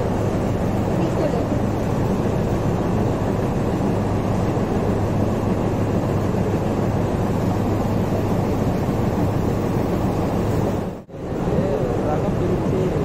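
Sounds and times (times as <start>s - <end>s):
machinery rumble and hum: 0.0s - 13.0s.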